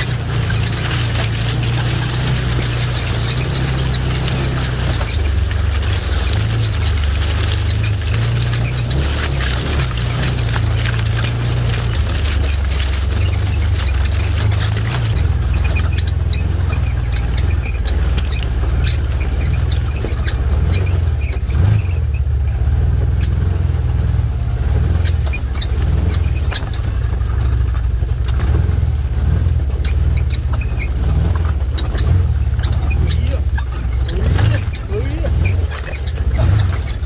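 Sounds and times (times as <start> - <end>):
knocks and rattles: 0.0 - 37.0
off-road vehicle engine rumble: 0.0 - 37.0.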